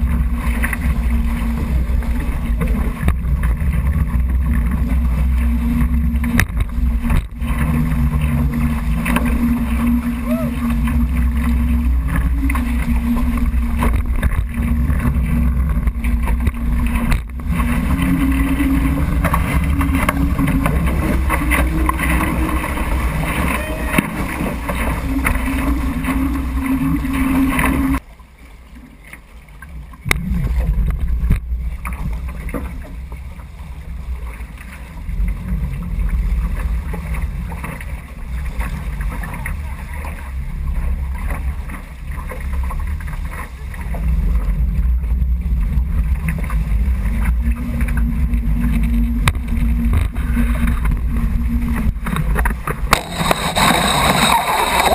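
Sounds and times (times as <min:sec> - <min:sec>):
steady low hum: 0:00.0 - 0:28.1, 0:30.1 - 0:54.9
water rushing off boat hulls: 0:00.0 - 0:54.9.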